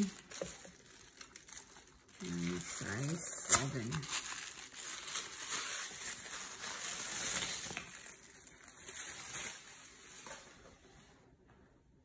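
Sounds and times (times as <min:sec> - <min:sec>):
tissue paper rustling: 0:00.0 - 0:11.3.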